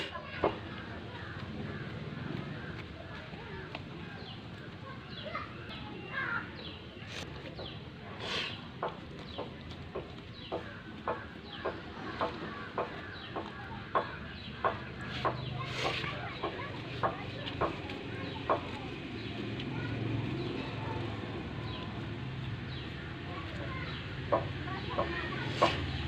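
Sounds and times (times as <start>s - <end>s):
chickens clucking: 0.0s - 3.8s, 7.0s - 26.0s.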